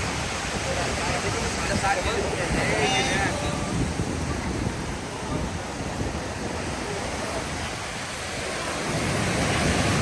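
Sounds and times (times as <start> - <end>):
ocean surf washing onto beach: 0.0 - 10.0
wind on microphone: 0.0 - 10.0.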